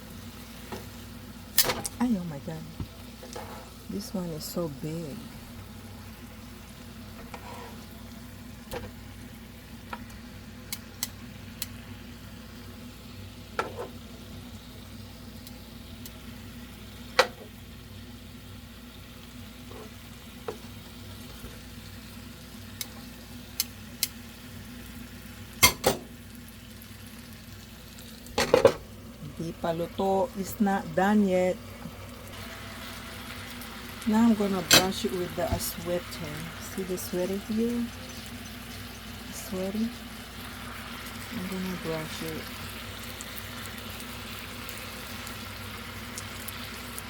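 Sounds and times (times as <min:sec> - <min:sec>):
chicken sizzling: 0:00.0 - 0:47.0.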